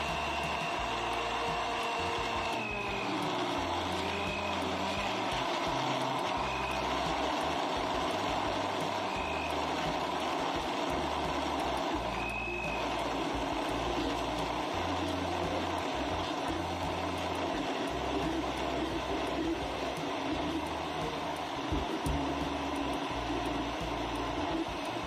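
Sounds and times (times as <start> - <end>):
blender running: 0.0 - 25.0.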